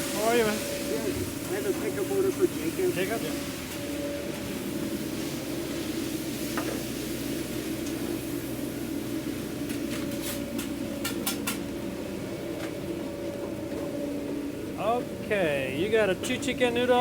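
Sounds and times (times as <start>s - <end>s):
fan machine humming: 0.0s - 17.0s.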